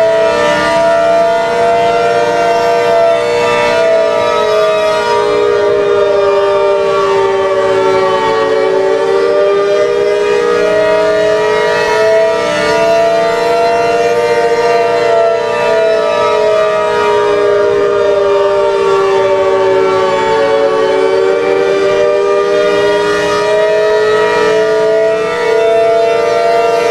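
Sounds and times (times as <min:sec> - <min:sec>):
warning siren wailing: 0:00.0 - 0:26.9.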